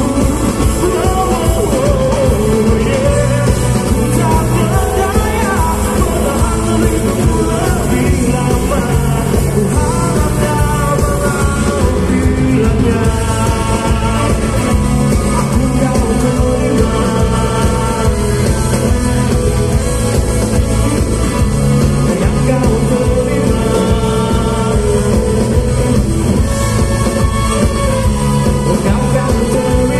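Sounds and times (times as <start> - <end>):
male singer singing: 0.0 - 19.8, 21.8 - 26.1, 27.6 - 29.9
live rock band playing: 0.0 - 29.9.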